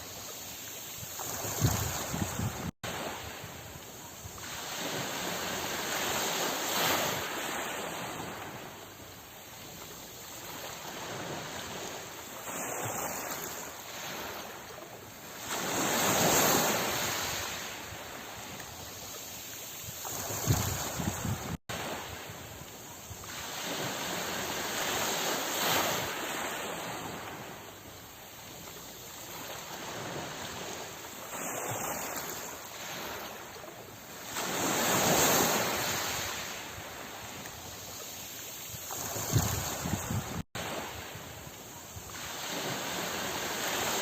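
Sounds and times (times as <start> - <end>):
sea waves washing on shore: 0.0 - 44.0.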